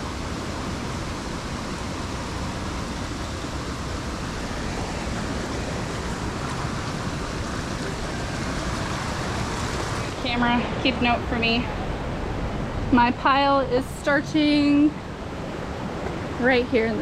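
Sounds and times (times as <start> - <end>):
waterfall and creek flowing: 0.0 - 17.0.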